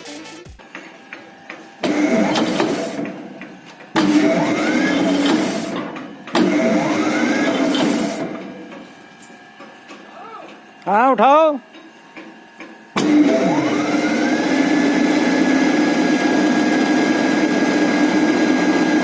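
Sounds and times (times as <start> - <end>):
motor-driven machinery running: 0.4 - 19.0.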